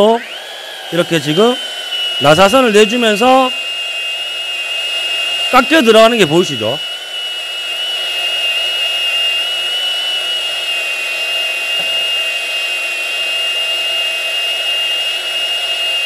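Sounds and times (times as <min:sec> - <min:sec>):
pipe threader high-pitched whine: 0:00.0 - 0:16.0.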